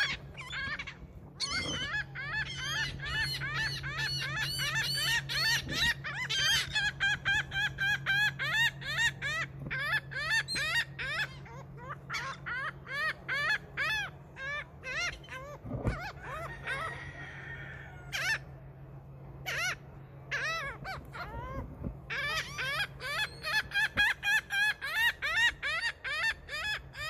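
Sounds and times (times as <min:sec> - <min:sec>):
laughing gull calling: 0:00.0 - 0:18.7, 0:19.4 - 0:27.0.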